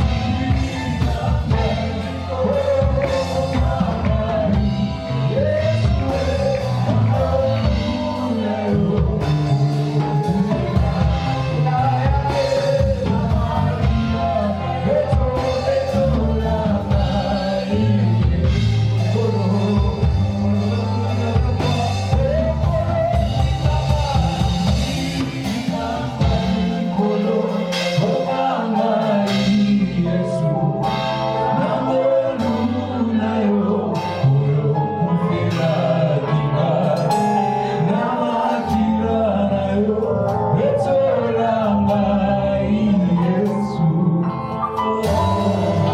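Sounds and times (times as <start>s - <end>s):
bass guitar: 0.0s - 45.9s
drum kit: 0.0s - 45.9s
singing: 0.0s - 45.9s.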